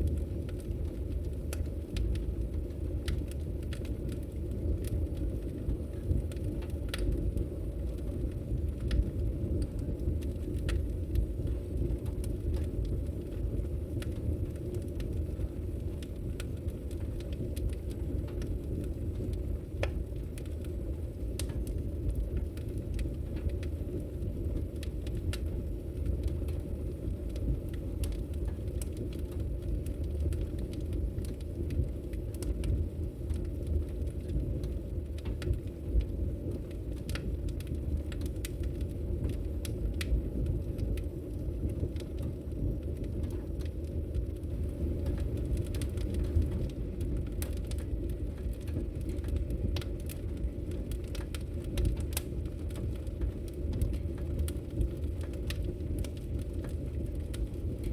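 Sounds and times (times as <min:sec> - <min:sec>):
burning logs popping: 0:00.0 - 0:57.9
wood fire crackling: 0:00.0 - 0:57.9.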